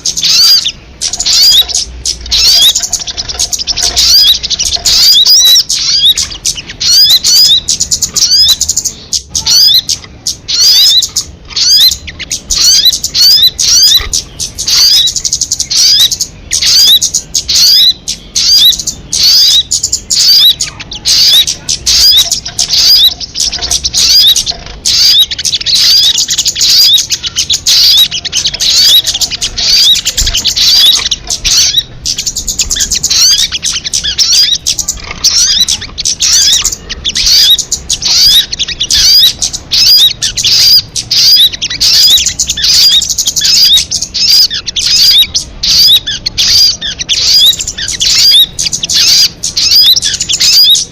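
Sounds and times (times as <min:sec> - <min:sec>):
songbird chirping and twittering: 0:00.0 - 0:50.9.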